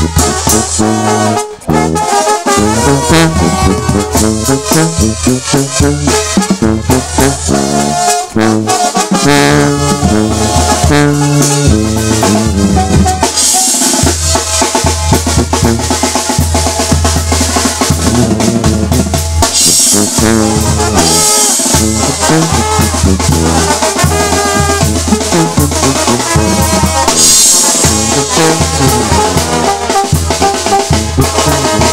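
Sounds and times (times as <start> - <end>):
brass band playing live: 0.0 - 31.9
drums and cymbals: 0.0 - 31.9.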